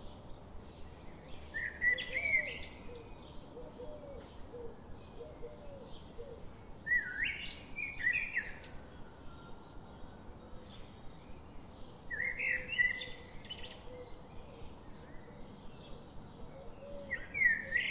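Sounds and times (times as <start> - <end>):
songbirds chirping: 0.0 - 17.9.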